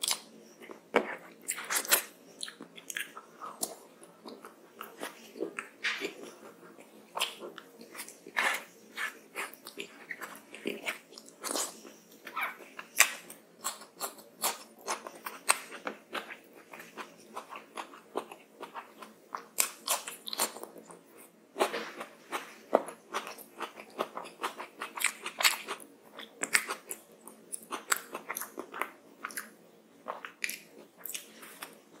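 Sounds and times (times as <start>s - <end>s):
person chewing and smacking: 0.0s - 32.0s.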